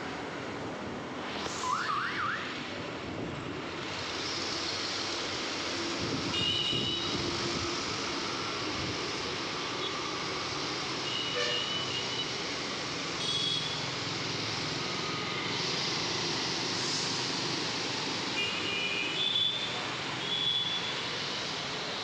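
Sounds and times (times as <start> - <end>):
motorbikes and scooters humming: 3.7 - 22.0.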